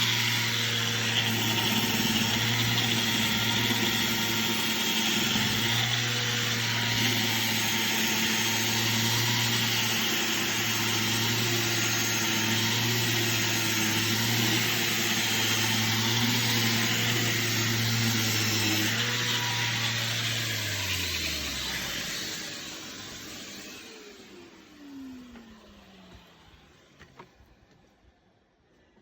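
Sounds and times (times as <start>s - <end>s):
electric sander running: 0.0s - 27.3s
sander motor winding down: 0.0s - 27.7s.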